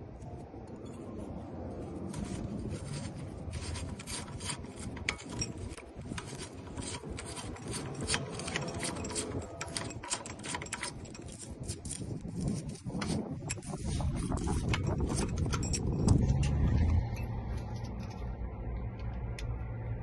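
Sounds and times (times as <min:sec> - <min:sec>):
small metal clicks and scraping: 0:00.2 - 0:19.8.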